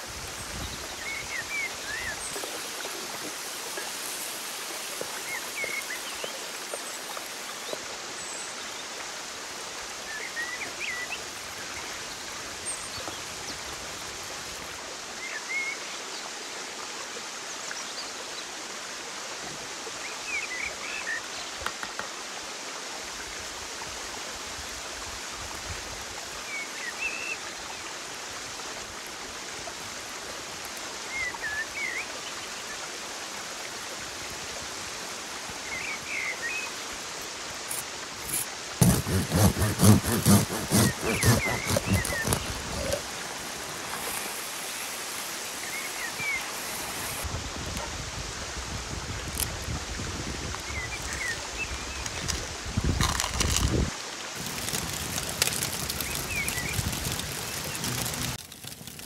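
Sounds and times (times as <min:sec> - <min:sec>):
stream rushing: 0:00.0 - 0:15.8, 0:18.5 - 0:58.9.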